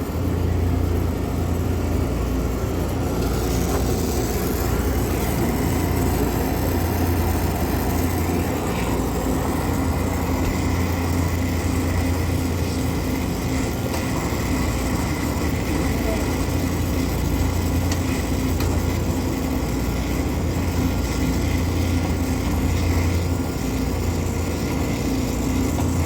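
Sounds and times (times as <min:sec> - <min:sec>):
machinery droning: 0:00.0 - 0:26.0.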